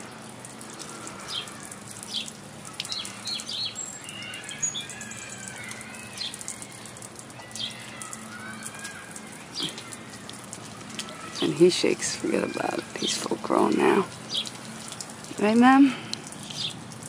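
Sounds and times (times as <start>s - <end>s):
lawn sprinkler spray hissing: 0.0s - 17.0s
small birds chirping: 0.1s - 16.9s.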